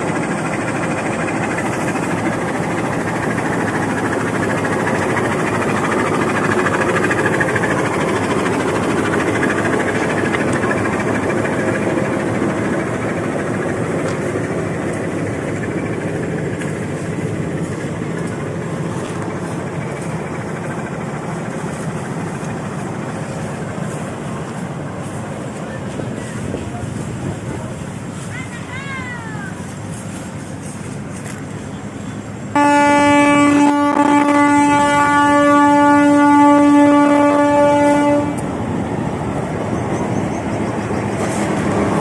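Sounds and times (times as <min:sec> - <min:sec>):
diesel locomotive engine running: 0:00.0 - 0:42.0.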